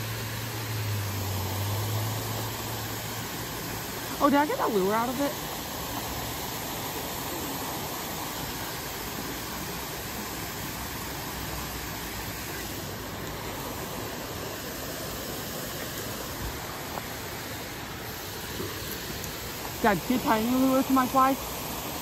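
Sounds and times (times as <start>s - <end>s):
water pouring over spillway: 0.0s - 22.0s.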